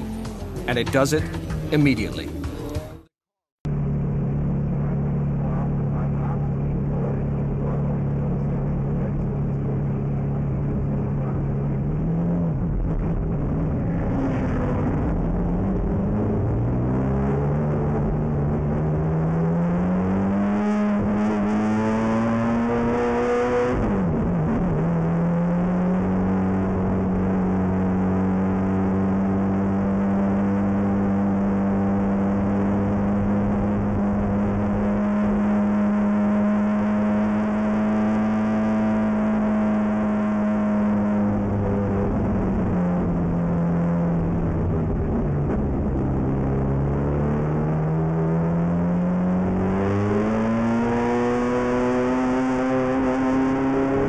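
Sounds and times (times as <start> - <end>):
race car engine from inside cabin: 3.7 - 54.0.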